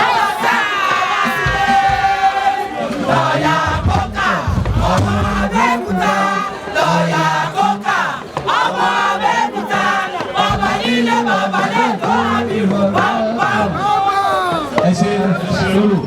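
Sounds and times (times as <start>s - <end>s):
many voices singing and chanting: 0.0s - 16.0s.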